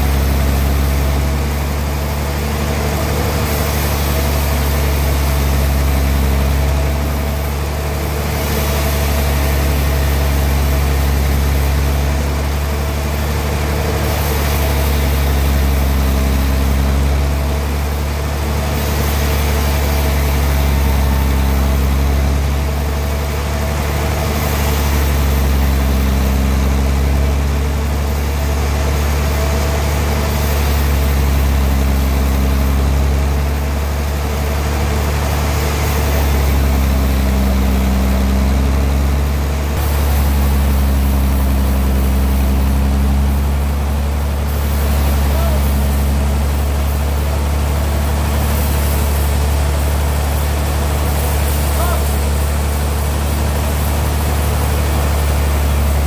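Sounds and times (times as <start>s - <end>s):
sawmill engine humming: 0.0s - 56.0s.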